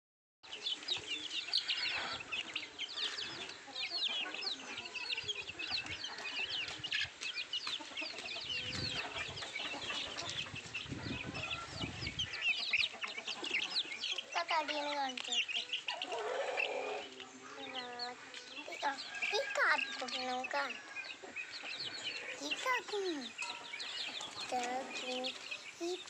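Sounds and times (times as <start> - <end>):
chicks peeping: 0.5 - 26.0.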